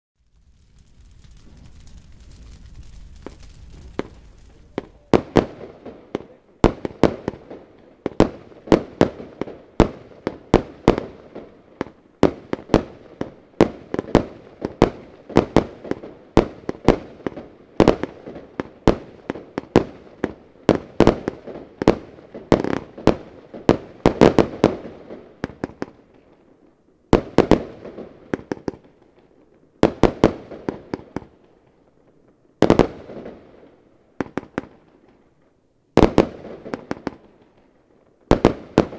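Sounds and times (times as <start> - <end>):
fireworks shots: 0.2 - 26.0, 27.1 - 29.1, 29.8 - 31.5, 32.6 - 33.5, 36.0 - 37.6, 38.2 - 38.9
fireworks crackling: 0.2 - 38.9.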